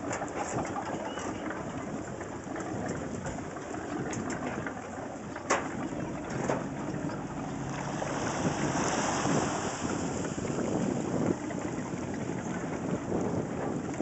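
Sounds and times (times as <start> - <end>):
paddle strokes splashing: 0.0 - 14.0
wind buffeting microphone: 0.0 - 14.0.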